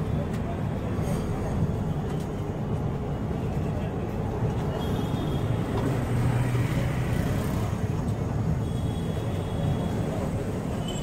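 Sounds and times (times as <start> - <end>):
roadside traffic engine hum: 0.0 - 11.0.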